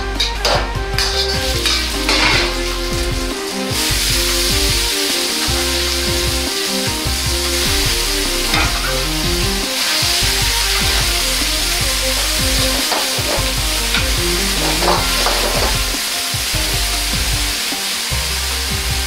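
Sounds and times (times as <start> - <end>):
ladle scraping a wok: 0.2 - 17.1
food sizzling in hot oil: 0.2 - 19.0.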